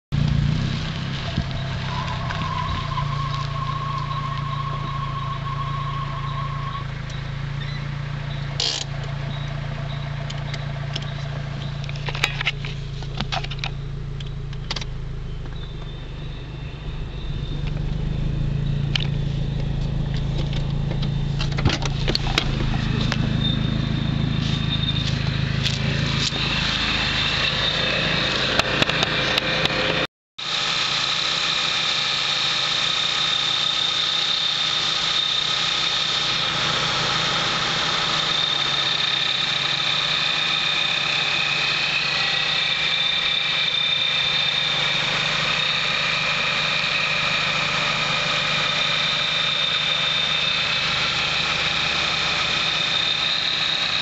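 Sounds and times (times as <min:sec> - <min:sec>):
car engine idling: 0:00.1 - 0:54.0.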